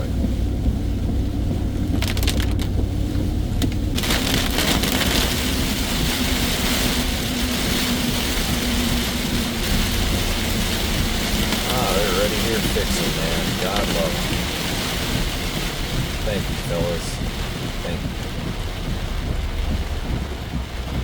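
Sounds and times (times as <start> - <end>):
heavy rain: 0.0 - 21.0
truck engine rumble from cab: 0.0 - 21.0.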